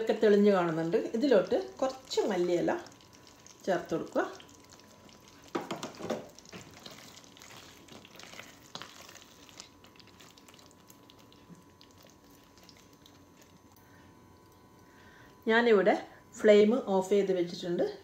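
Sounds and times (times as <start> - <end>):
faint simmering: 0.0 - 16.2.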